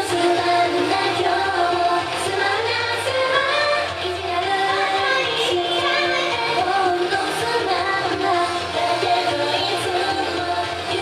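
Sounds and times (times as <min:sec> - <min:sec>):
female vocals singing pop song: 0:00.0 - 0:11.0
loud pop music accompaniment: 0:00.0 - 0:11.0.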